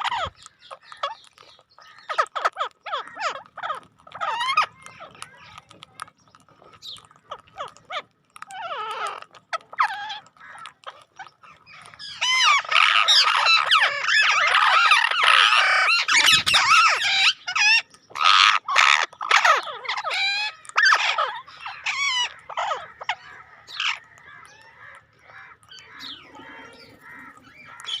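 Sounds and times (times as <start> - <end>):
bird-like chirping and squawking: 0.0 - 28.0.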